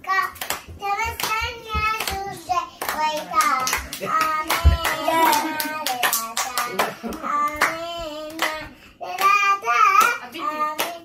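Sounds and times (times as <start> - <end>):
girl singing: 0.0 - 11.0
hands clapping: 0.1 - 9.4, 10.0 - 10.2, 10.8 - 11.0.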